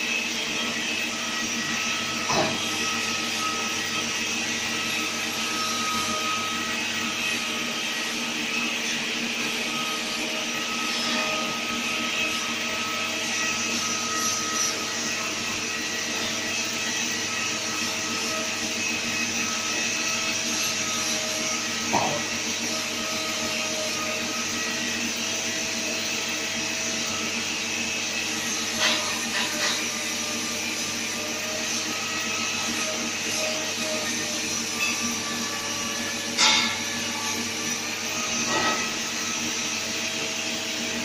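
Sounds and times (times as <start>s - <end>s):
machine motor hum and whine: 0.0s - 41.0s.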